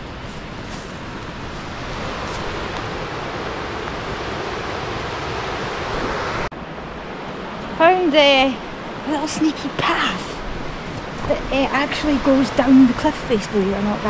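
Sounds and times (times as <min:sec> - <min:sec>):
wind rushing: 0:00.0 - 0:14.0.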